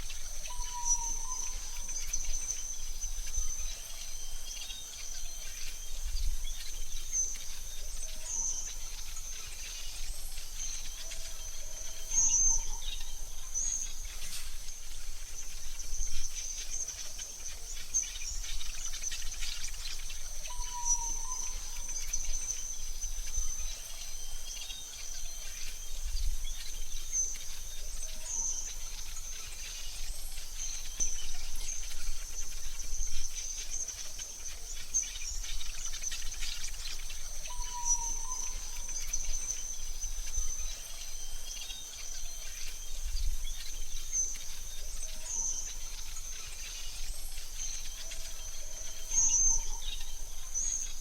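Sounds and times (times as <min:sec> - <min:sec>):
high insect trill: 0:00.0 - 0:51.0.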